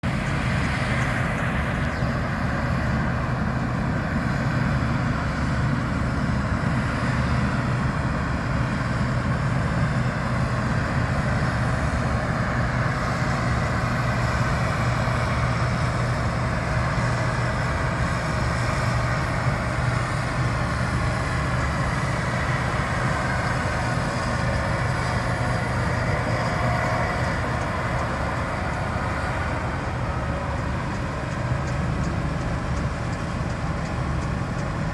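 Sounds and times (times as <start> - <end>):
combine harvester engine and threshing: 0.0 - 34.9.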